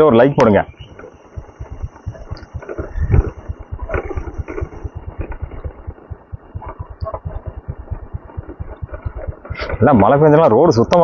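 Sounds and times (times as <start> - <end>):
motorcycle engine running: 0.7 - 10.4.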